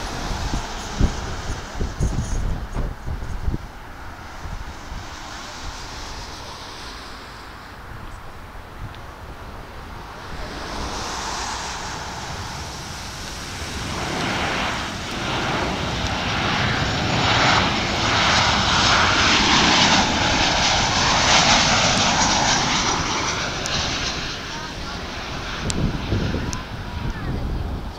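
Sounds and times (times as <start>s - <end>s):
airliner jet engines rushing: 0.0s - 27.9s.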